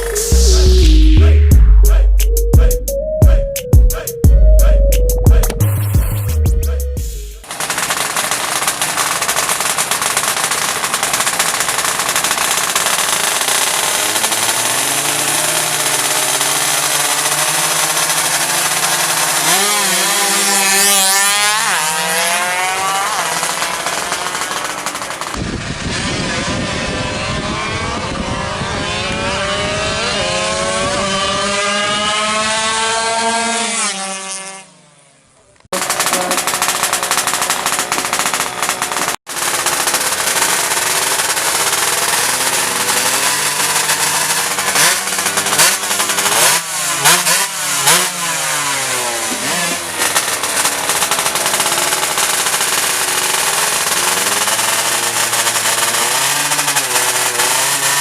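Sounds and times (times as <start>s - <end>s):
two-stroke motorcycle engine revving: 7.4s - 58.0s.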